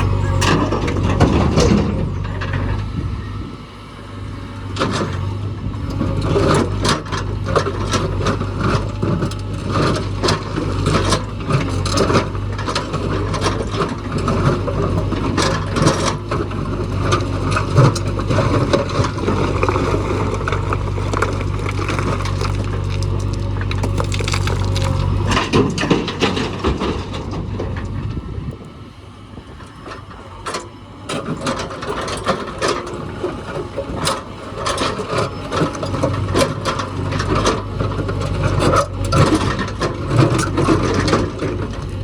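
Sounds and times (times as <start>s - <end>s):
machinery clanks and rattles: 0.0s - 3.6s, 4.6s - 42.0s
diesel engine running: 0.0s - 42.0s.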